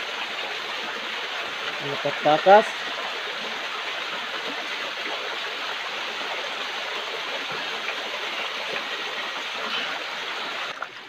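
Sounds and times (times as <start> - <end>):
stream water flowing over rocks: 0.0 - 11.0.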